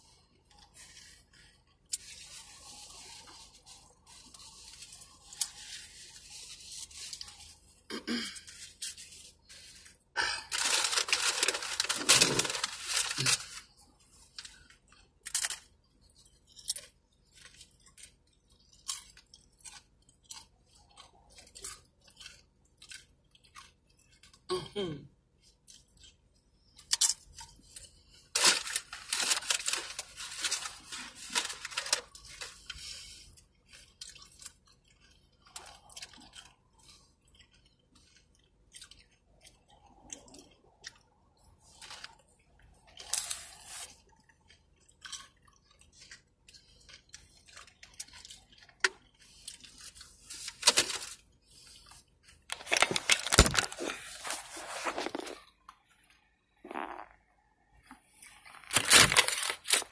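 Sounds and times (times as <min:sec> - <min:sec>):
crunching tortilla chips: 0:00.1 - 0:24.5, 0:25.4 - 0:57.2, 0:57.8 - 0:59.9.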